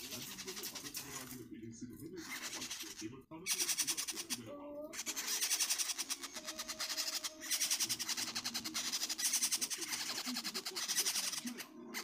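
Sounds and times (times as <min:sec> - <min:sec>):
parrot chicks begging calls: 0:00.0 - 0:01.3, 0:02.1 - 0:12.0.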